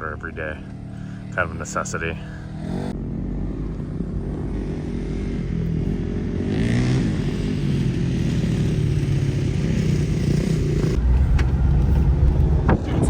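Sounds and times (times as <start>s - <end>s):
car engine pulling: 0.0s - 5.0s, 5.6s - 13.0s.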